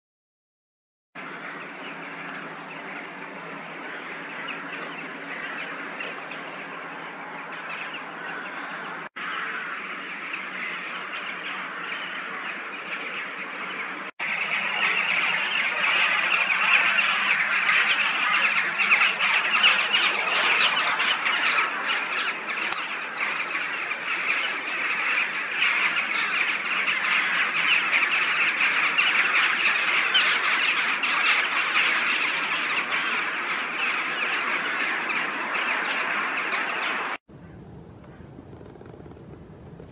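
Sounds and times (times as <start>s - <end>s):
flock of birds calling: 1.2s - 39.0s.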